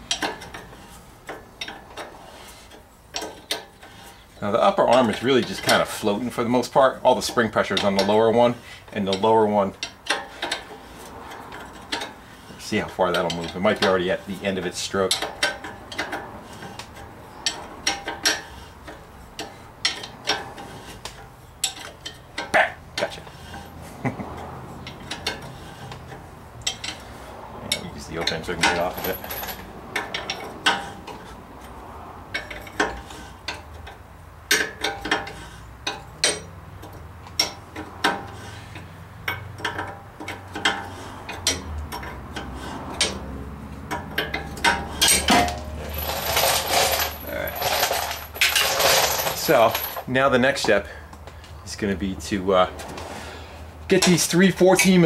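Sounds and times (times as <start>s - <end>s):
steel tools clanking: 0.0s - 51.0s, 53.9s - 55.0s.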